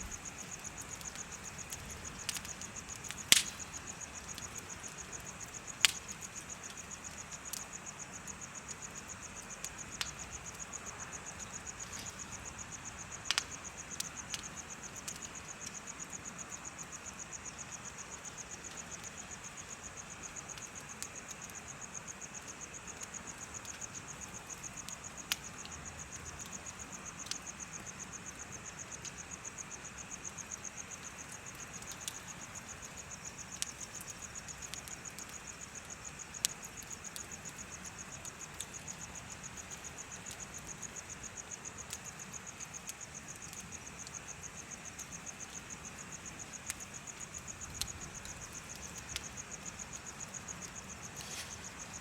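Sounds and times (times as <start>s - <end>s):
bonfire crackling and popping: 0.0s - 52.0s
crickets chirping: 0.0s - 52.0s.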